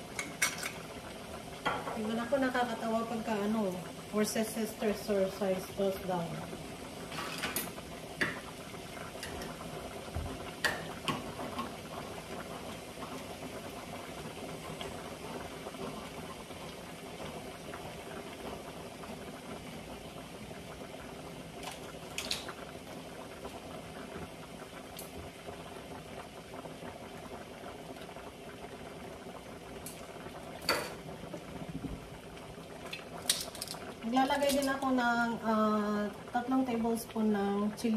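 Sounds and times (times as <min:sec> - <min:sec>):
stew boiling hiss: 0:00.0 - 0:37.9.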